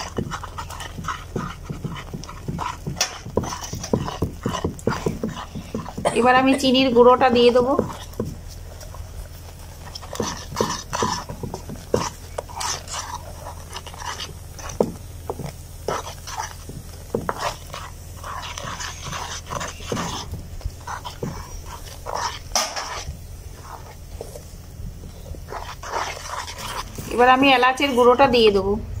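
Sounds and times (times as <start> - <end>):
wooden spatula scraping metal pan: 0.0 - 8.4, 9.7 - 24.4, 25.1 - 28.2.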